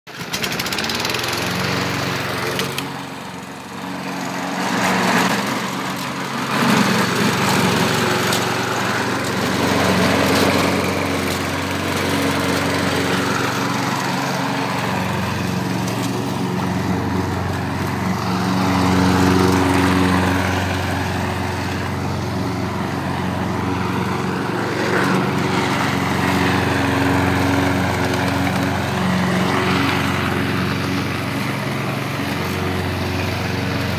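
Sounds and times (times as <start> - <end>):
lawn mower engine running: 0.1 - 33.9.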